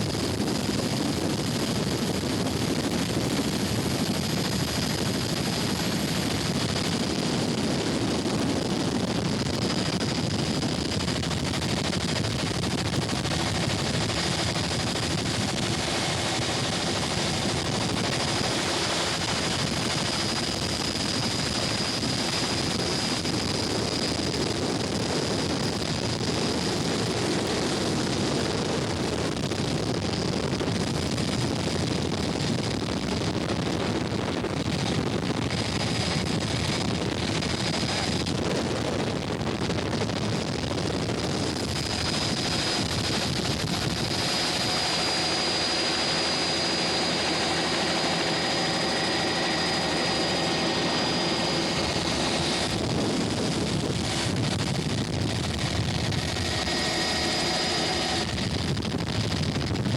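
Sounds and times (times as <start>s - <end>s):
engine drone: 0.0s - 59.9s.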